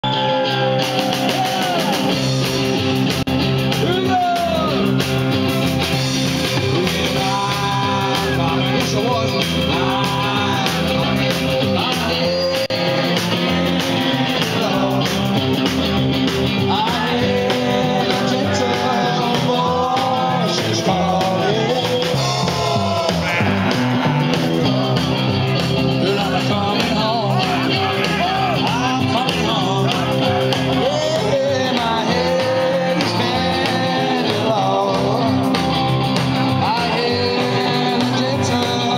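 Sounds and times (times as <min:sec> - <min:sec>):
drum kit: 0:00.0 - 0:38.9
electric guitar: 0:00.0 - 0:38.9
man singing: 0:03.7 - 0:05.0, 0:06.2 - 0:38.9.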